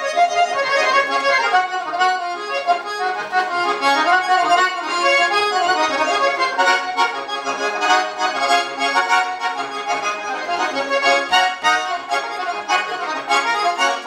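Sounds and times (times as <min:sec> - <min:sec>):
button accordion playing: 0:00.0 - 0:14.0.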